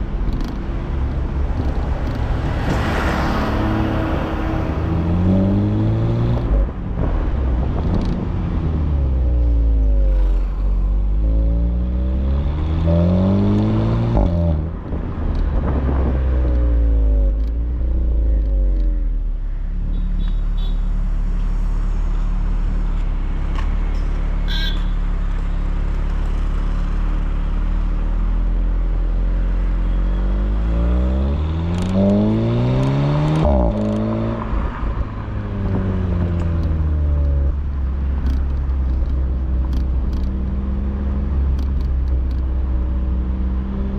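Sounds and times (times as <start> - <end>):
car engine and exhaust accelerating: 0.0 - 43.9.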